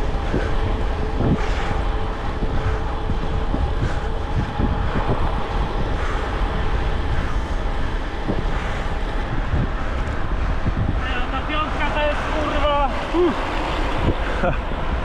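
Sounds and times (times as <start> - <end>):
faint constant hum: 0.0 - 15.0
wind rushing over microphone: 0.0 - 15.0.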